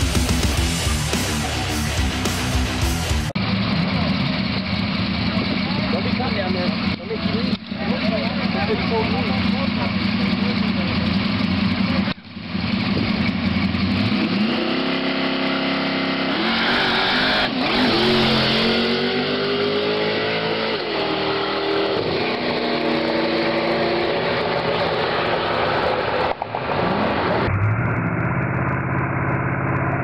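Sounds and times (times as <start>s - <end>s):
drag racing engines at full throttle: 0.0s - 30.0s.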